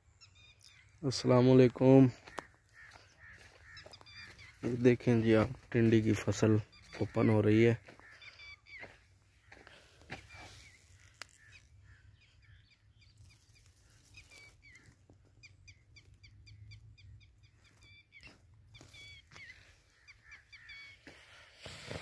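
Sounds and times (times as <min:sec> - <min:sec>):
faint high bird calls: 0:00.0 - 0:22.0.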